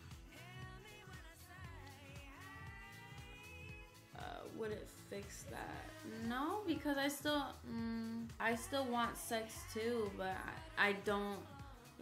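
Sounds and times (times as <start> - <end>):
quiet pop music: 0.0 - 12.0.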